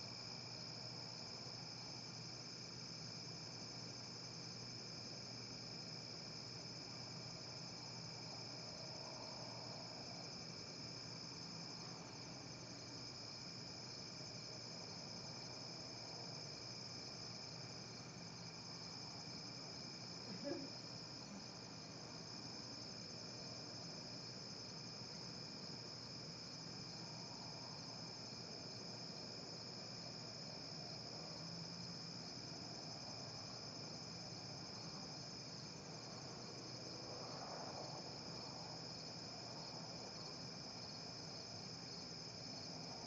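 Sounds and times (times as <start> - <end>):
crickets trilling: 5.8 - 43.0.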